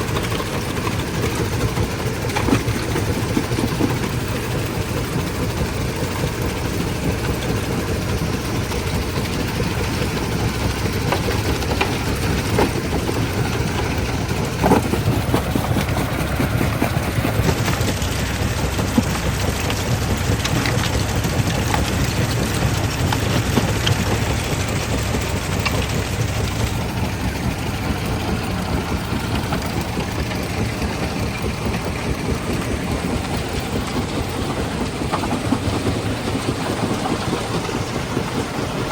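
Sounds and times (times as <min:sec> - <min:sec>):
crushing machinery drone: 0:00.0 - 0:38.9.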